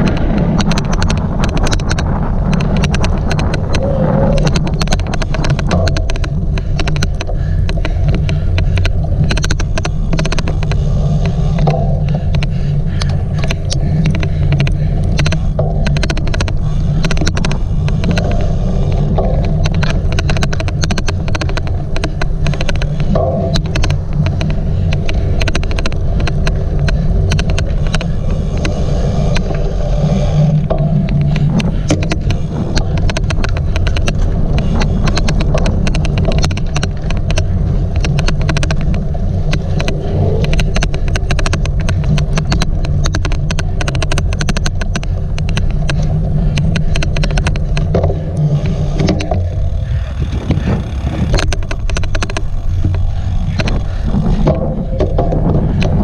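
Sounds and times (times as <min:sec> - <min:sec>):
bike clicking: 0:00.0 - 0:56.0
wind and tyres on rough ground: 0:00.0 - 0:56.0.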